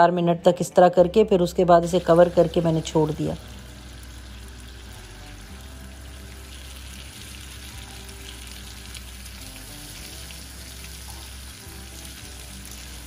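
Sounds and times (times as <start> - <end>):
steaks sizzling in butter: 1.9 - 13.0.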